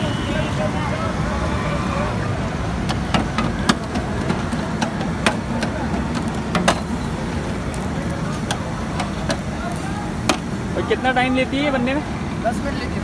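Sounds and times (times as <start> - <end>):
charcoal fire crackling and popping: 1.3 - 12.1.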